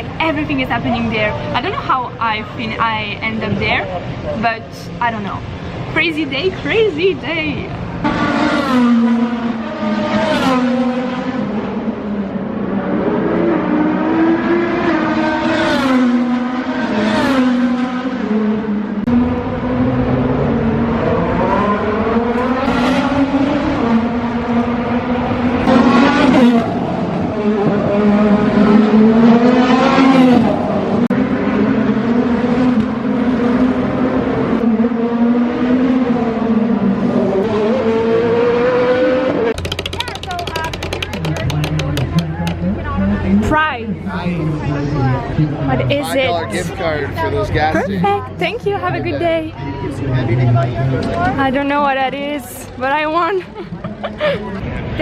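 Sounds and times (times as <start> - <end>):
race cars passing at high revs: 0.0 - 55.0.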